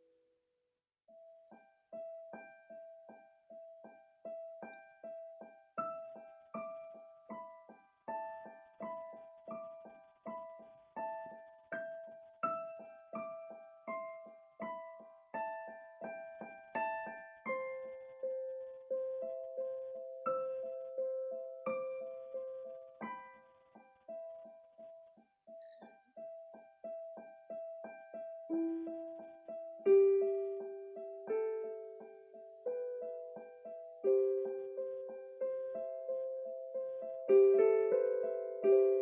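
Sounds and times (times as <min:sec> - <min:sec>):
slow solo piano: 0:01.1 - 0:39.0.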